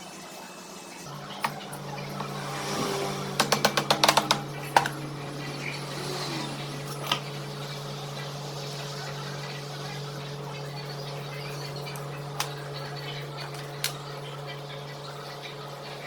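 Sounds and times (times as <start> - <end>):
low hum: 1.1 - 16.0.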